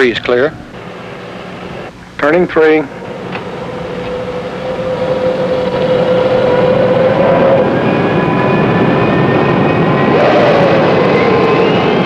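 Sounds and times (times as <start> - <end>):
jet engine starting up whine: 0.6 - 12.0.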